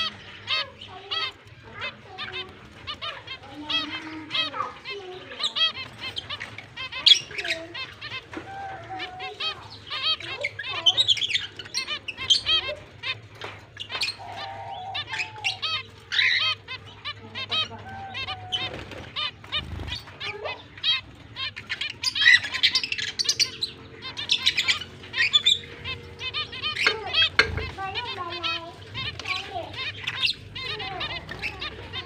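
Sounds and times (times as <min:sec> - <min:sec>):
finches chirping: 0:00.0 - 0:32.0.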